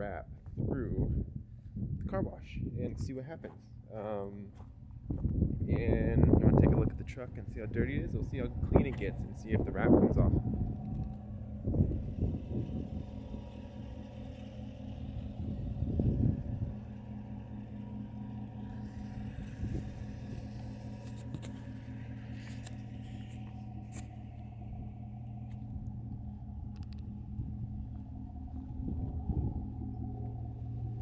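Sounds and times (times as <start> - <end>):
pickup engine idling: 2.8 - 31.0.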